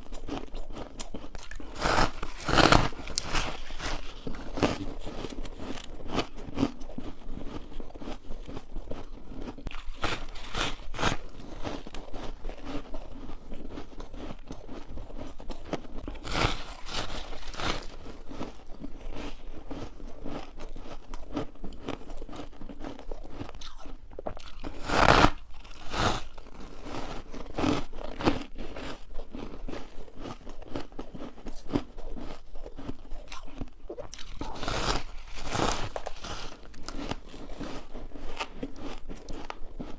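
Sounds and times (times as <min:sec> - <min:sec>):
crunching ice close up: 0:00.1 - 0:39.9.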